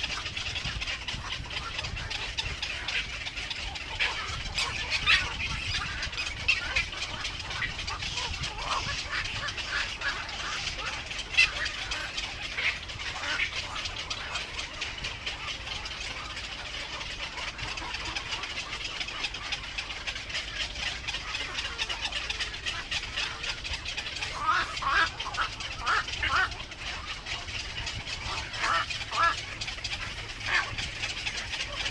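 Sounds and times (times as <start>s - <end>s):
birds chirping: 0.0s - 31.9s
low steady rumble: 0.0s - 31.9s.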